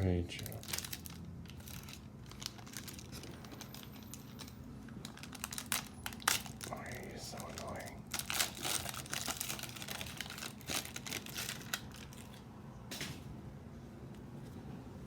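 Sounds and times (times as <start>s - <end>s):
card wrappers crinkling: 0.3s - 12.4s.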